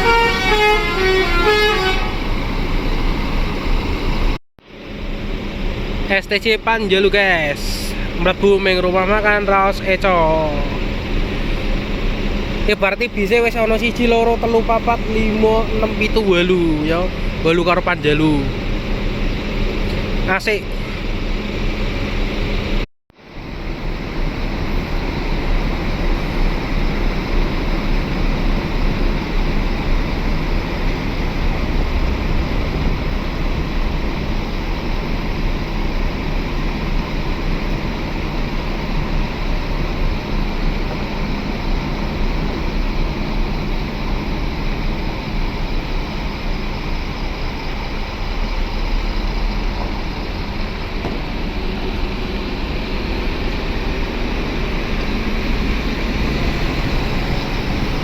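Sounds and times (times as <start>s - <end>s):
bus diesel engines rumbling: 0.0s - 58.0s.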